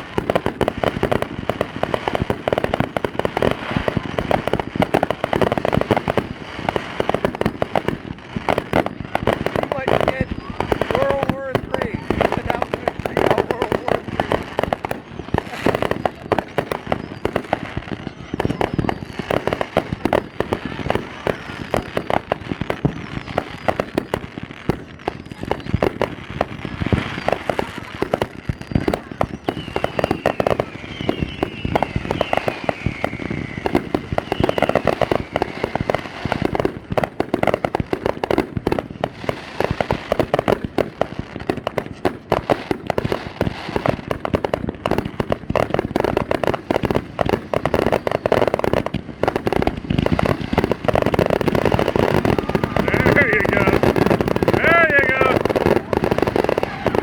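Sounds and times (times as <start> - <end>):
falling firework whistle: 0.0 - 36.9, 44.9 - 57.0
fireworks bangs and crackling: 0.0 - 57.0.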